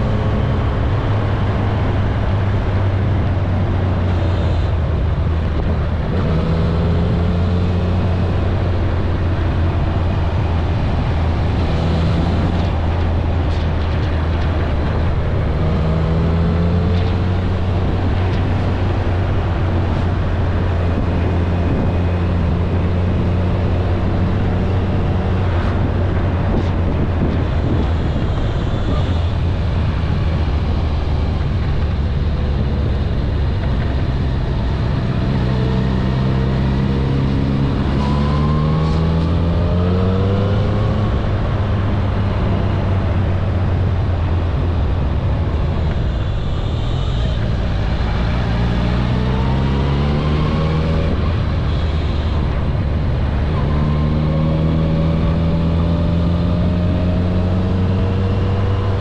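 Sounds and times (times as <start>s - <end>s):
motorcycle engine cruising: 0.0s - 59.0s
wind rushing over microphone: 0.0s - 59.0s.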